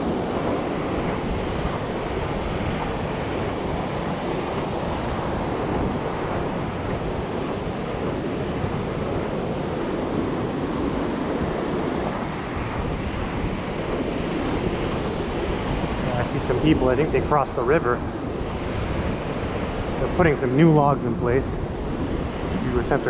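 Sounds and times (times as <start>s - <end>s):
ocean surf washing ashore: 0.0s - 23.0s
wind buffeting microphone: 0.0s - 23.0s.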